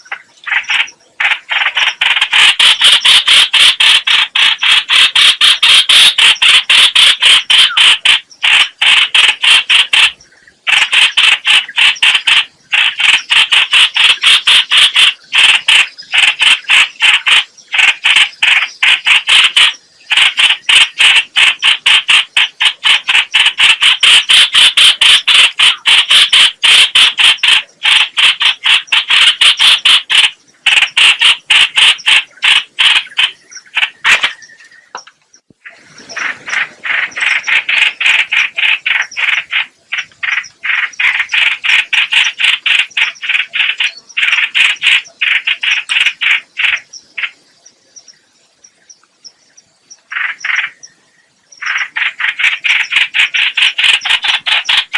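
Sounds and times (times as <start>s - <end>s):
bird rapid chattering call: 0.0s - 47.5s, 49.9s - 54.9s.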